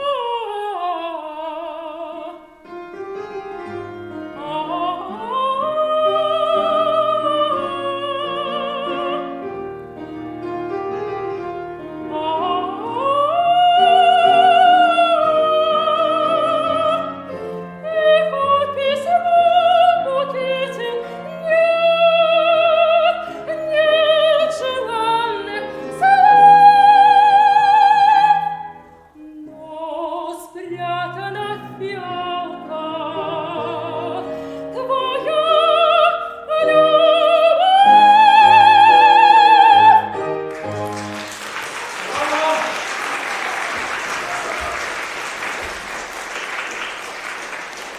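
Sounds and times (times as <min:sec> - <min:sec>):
soprano singing with vibrato: 0:00.0 - 0:09.5, 0:11.8 - 0:40.5, 0:42.0 - 0:42.9
piano accompaniment: 0:00.0 - 0:47.9.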